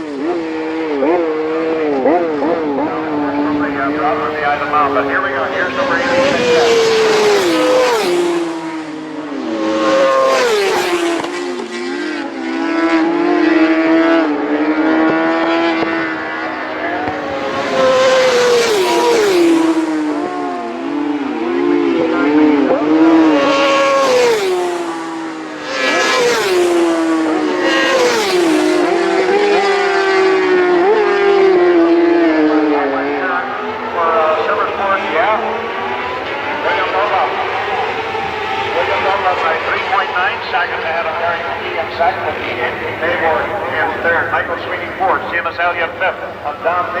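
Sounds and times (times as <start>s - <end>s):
racing motorcycles revving past: 0.0s - 47.0s.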